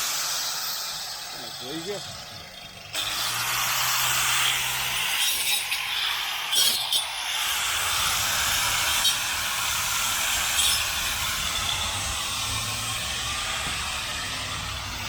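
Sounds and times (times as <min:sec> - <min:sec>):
angle grinder cutting wood: 0:00.0 - 0:15.0.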